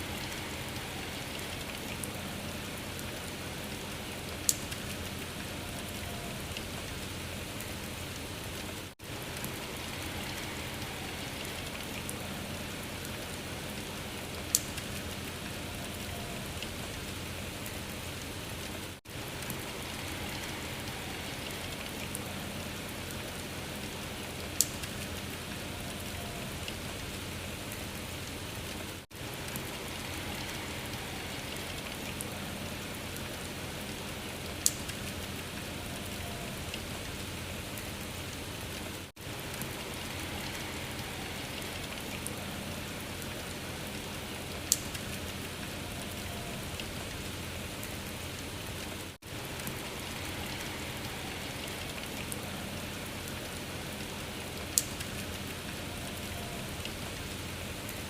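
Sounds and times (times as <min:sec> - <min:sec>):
rain hissing on a surface: 0:00.0 - 0:58.0.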